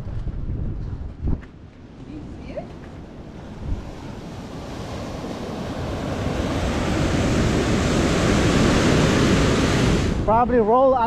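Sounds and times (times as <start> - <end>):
wind buffeting microphone: 0.0 - 11.0
ocean surf breaking: 2.0 - 11.0.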